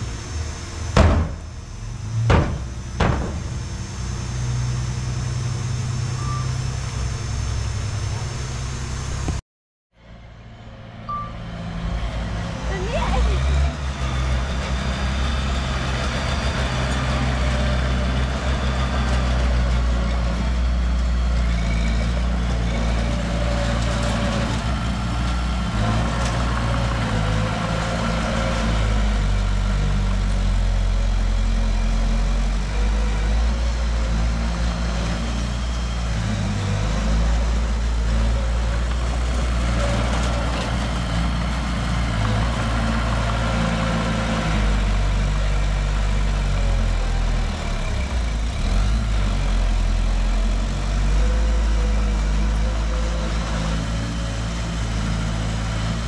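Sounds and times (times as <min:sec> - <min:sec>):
diesel machinery engine drone: 0:00.0 - 0:09.4, 0:10.0 - 0:56.0.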